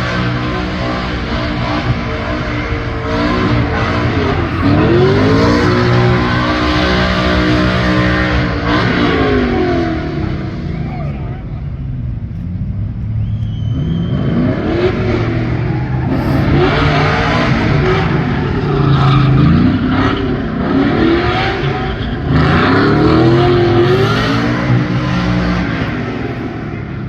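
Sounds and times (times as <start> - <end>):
truck engine revving hard: 0.0 - 11.3, 13.4 - 27.0.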